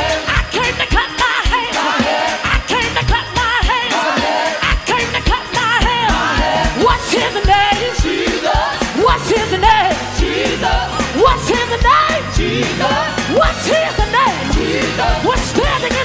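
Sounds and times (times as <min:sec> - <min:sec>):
band with fast drum beat: 0:00.0 - 0:16.0
gospel singing: 0:00.0 - 0:16.0.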